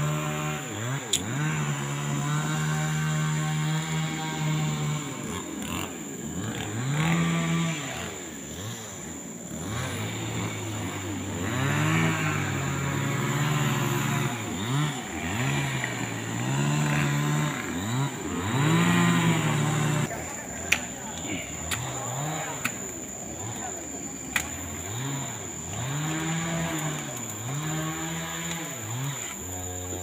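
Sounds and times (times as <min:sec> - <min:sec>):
small engine revving: 0:00.0 - 0:30.0.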